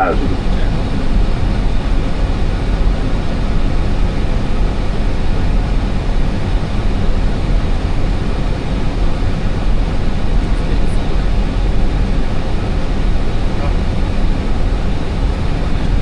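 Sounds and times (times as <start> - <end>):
jet engines droning: 0.0 - 16.0
rush of air over cockpit: 0.0 - 16.0.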